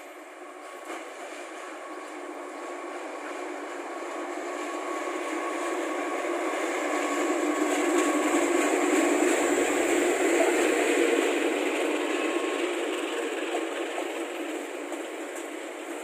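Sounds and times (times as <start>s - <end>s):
diesel locomotive engine: 0.0s - 16.0s
train wheels on rails: 0.0s - 16.0s.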